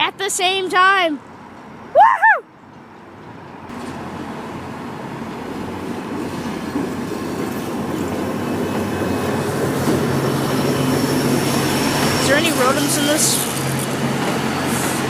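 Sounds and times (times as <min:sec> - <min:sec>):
train wheels rumbling over rails: 0:02.6 - 0:15.0.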